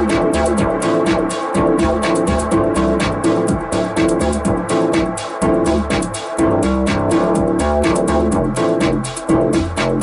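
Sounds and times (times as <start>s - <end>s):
hi-hat ticks: 0.0s - 10.0s
house music beat: 0.0s - 10.0s
synth bass line: 0.0s - 10.0s.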